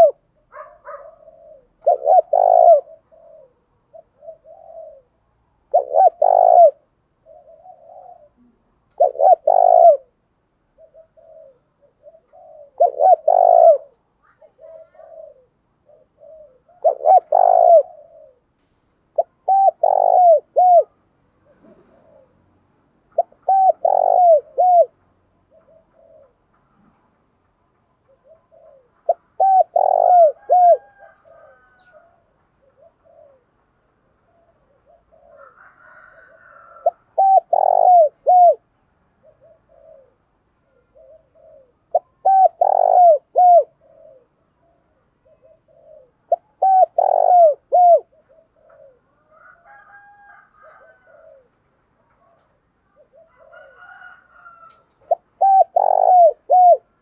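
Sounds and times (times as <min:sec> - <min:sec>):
dove cooing: 0:00.0 - 0:27.2, 0:28.0 - 0:57.0.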